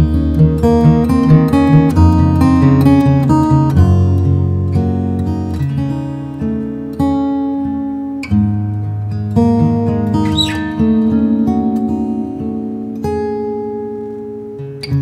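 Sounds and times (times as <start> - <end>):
acoustic guitar fingerstyle: 0.0 - 15.0.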